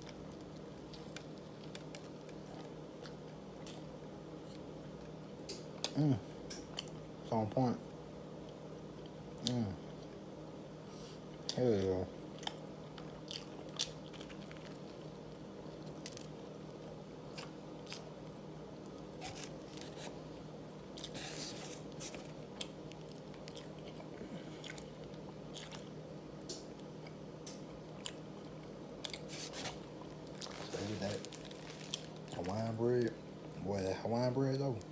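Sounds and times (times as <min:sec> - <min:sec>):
person chewing crunchy sandwich: 0:00.0 - 0:07.1, 0:08.4 - 0:10.3, 0:11.2 - 0:32.8
steady low hum: 0:00.0 - 0:34.9.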